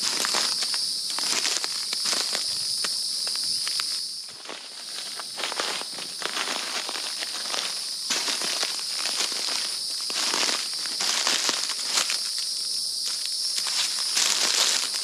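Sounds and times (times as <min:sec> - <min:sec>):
footsteps crunching through dry leaves: 0:00.0 - 0:15.0
high-pitched insect drone: 0:00.0 - 0:15.0.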